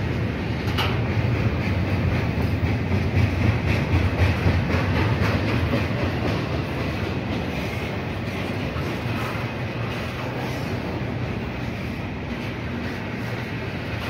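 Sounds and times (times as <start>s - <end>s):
train wheels rumbling on rails: 0.0s - 14.0s
wheels clicking over track joints: 0.5s - 14.0s.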